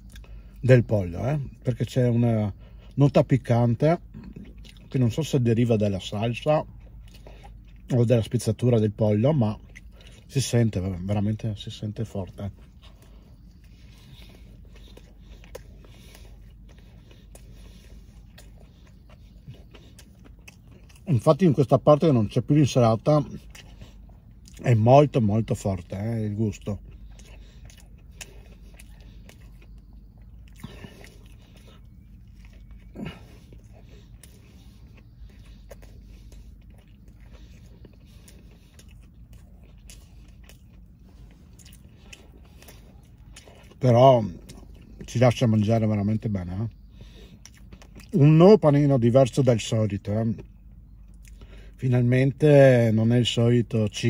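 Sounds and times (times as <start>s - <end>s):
low hum: 0.0s - 54.0s
person chewing: 0.0s - 54.0s.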